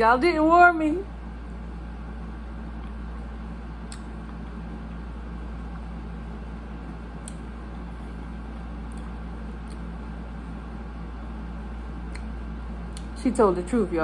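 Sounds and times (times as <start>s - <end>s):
low indoor hum: 0.0s - 14.0s.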